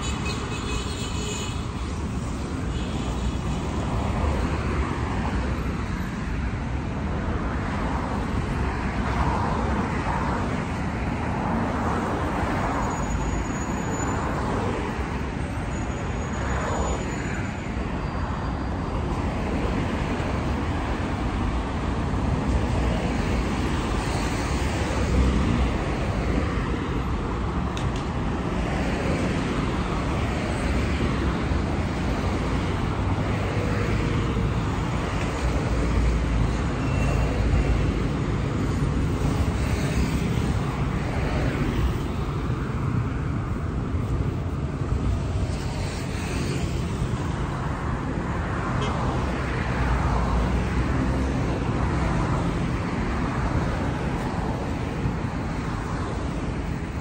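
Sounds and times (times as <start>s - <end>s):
passing cars rushing: 1.6s - 57.0s.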